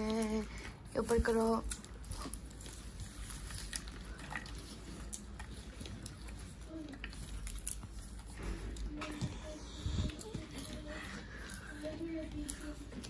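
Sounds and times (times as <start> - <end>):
popcorn crunching: 0.0 - 13.0
popcorn rustling: 0.0 - 13.0.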